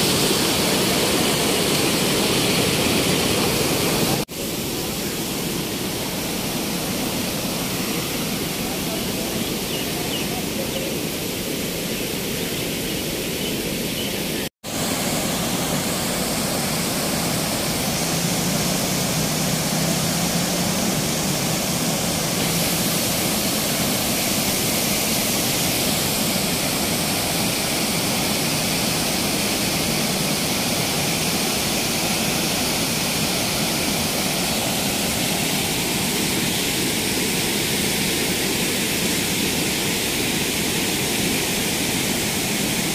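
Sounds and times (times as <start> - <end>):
floodwater rushing through gates: 0.0 - 10.5, 14.7 - 42.9.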